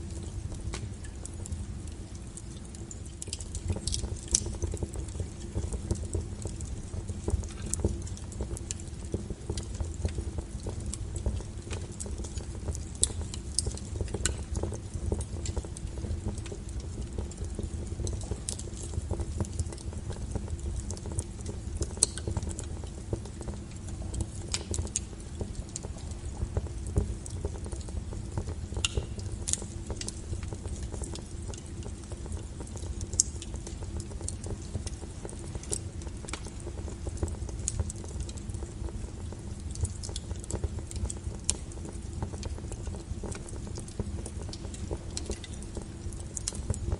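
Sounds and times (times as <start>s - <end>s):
low fire rumble: 0.0s - 46.9s
wood fire crackling and popping: 0.0s - 46.9s.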